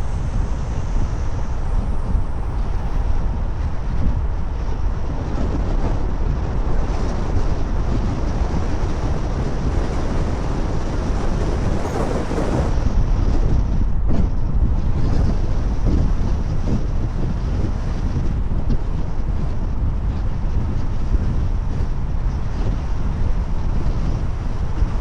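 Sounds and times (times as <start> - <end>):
car driving rumble: 0.0 - 25.0
wind buffeting microphone: 0.0 - 25.0.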